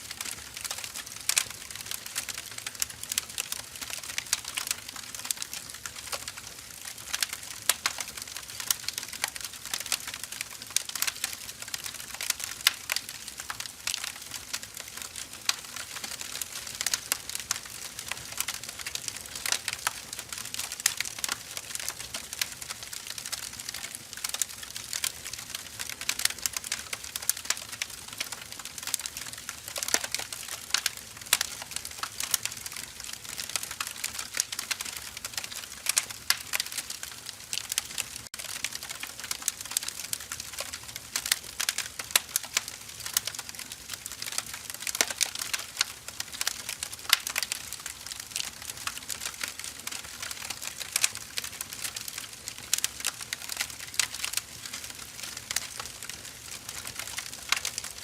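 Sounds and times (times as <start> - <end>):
firewood crackling: 0.0 - 58.0.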